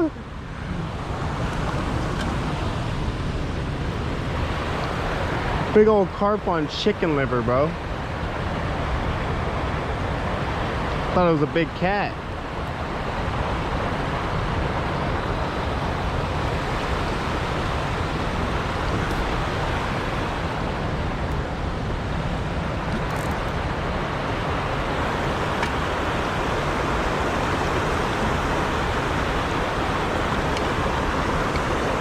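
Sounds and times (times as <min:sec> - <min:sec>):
creek water rushing: 0:00.0 - 0:32.0.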